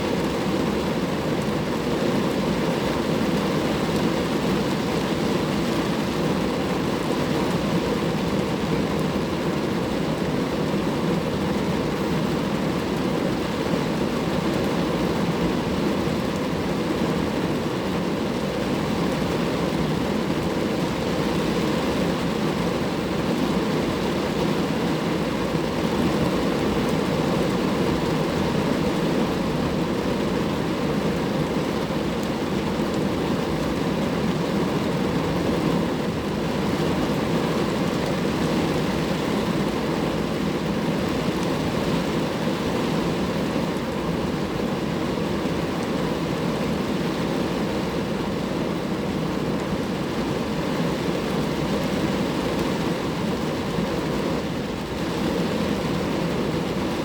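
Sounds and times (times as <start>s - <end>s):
rain falling on a car: 0.0s - 57.0s.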